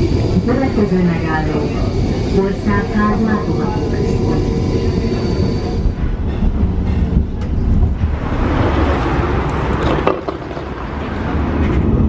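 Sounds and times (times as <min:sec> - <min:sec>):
tram running rumble: 0:00.0 - 0:12.0.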